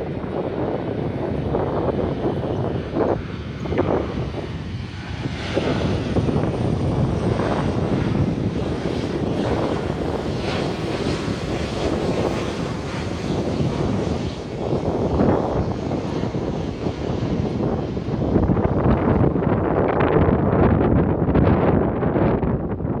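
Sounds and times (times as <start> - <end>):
jet engines rushing drone: 0.0 - 23.0.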